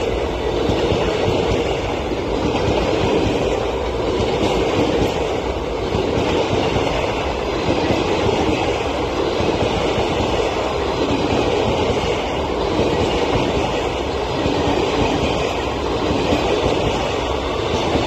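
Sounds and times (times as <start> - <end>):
train coaches passing: 0.0 - 18.0
train wheels running on rails: 0.0 - 18.0.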